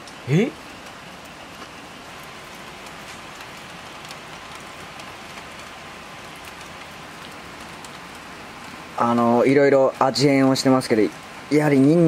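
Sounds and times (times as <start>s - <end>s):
raindrops ticking: 0.0s - 12.0s
steady rain hiss: 0.0s - 12.0s.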